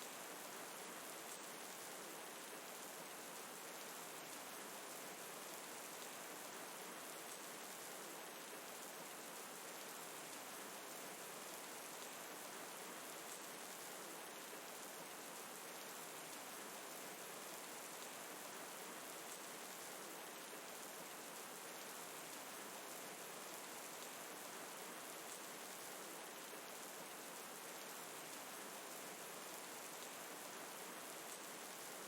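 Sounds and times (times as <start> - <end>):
faint rain hiss: 0.0 - 32.0.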